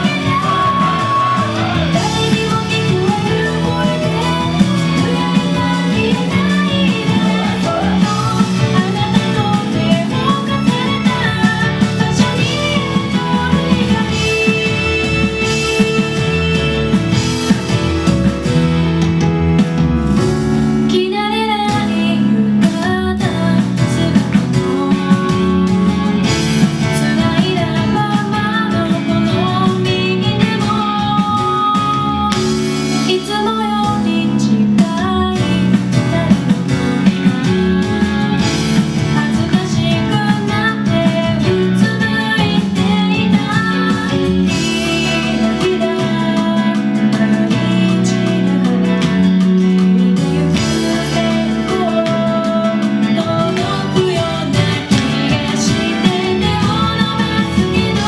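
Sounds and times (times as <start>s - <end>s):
pop song with woman singing: 0.0s - 17.9s, 20.8s - 58.0s
guitar band backing: 0.0s - 58.0s.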